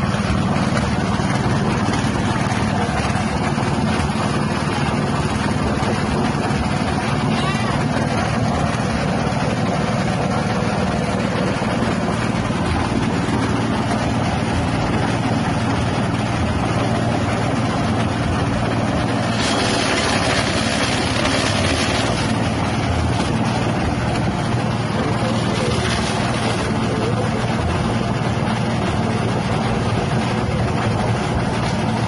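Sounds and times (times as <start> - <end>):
petrol engine running: 0.0 - 32.0.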